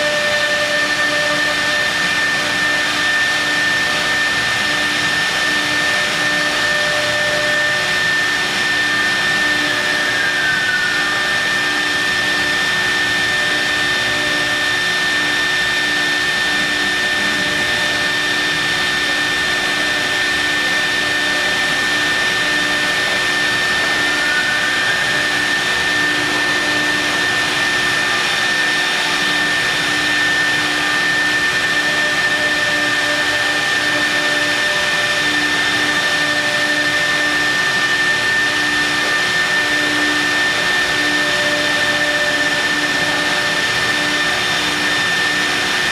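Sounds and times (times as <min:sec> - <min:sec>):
spindle whine: 0:00.0 - 0:45.9.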